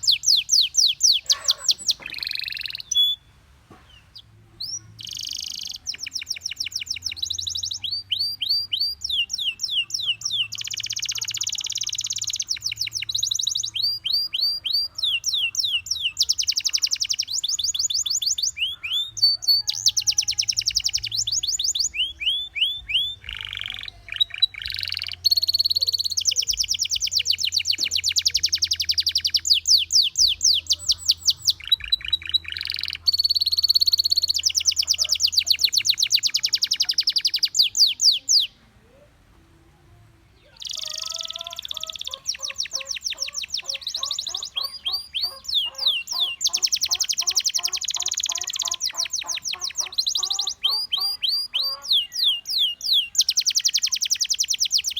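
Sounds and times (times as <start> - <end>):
canary singing trills: 0.0 - 39.2, 39.9 - 54.9.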